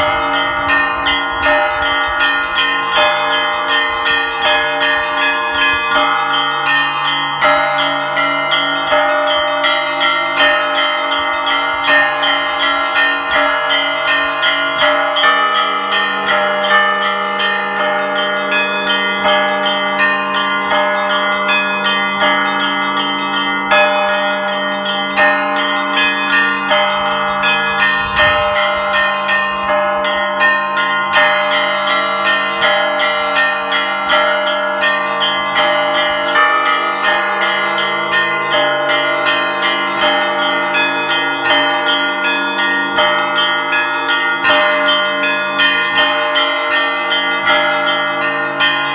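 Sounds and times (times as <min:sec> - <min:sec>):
deep large bells ringing: 0:00.0 - 0:48.9.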